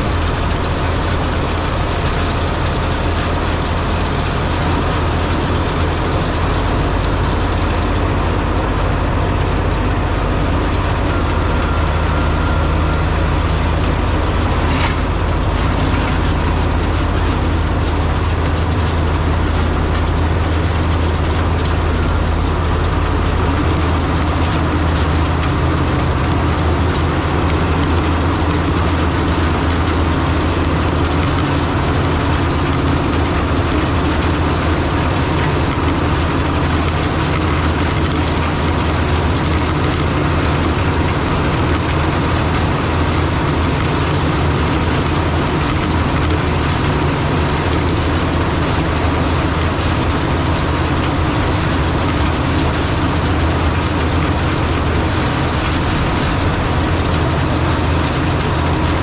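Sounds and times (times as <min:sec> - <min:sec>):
machinery noise: 0:00.0 - 0:59.0
tractor diesel engine running: 0:00.0 - 0:59.0.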